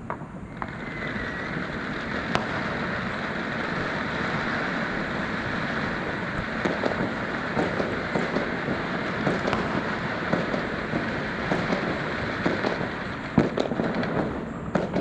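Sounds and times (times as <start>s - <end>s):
firework bang: 0.0s - 15.0s
firework crackling pops: 0.0s - 15.0s
firework hissing spray: 0.0s - 15.0s.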